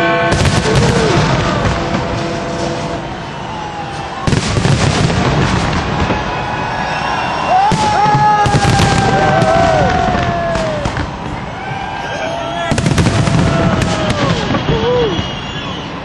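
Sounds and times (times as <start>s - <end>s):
descending firework whistle: 0.0s - 16.0s
firework crackling: 0.0s - 16.0s.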